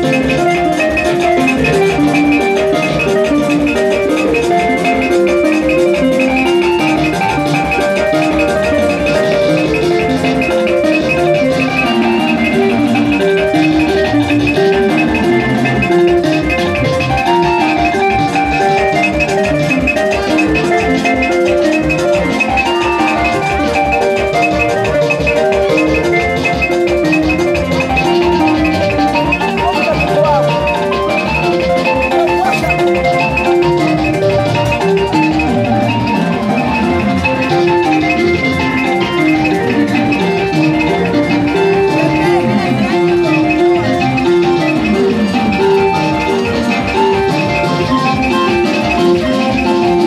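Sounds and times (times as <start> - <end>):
upbeat music with fast drum beat: 0.0 - 50.0.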